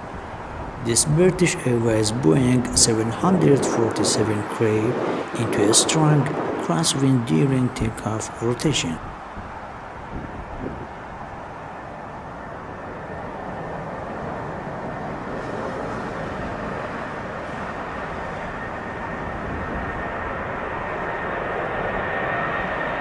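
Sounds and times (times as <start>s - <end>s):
high jet whine: 0.0s - 23.0s
jet engines roaring: 0.0s - 23.0s.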